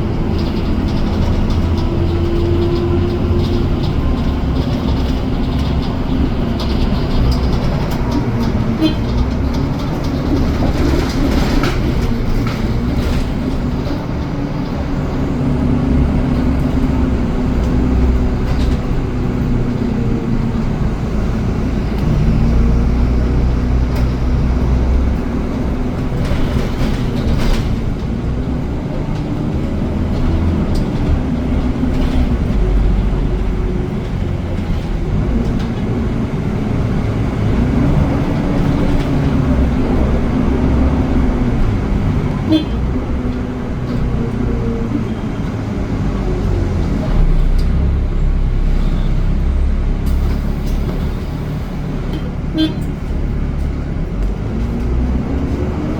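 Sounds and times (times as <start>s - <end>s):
bus engine hum and rumble: 0.0s - 55.9s.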